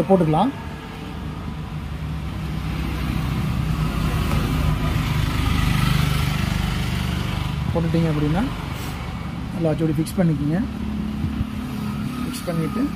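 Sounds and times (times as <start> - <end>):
vehicle engine rumbling: 0.0 - 12.9.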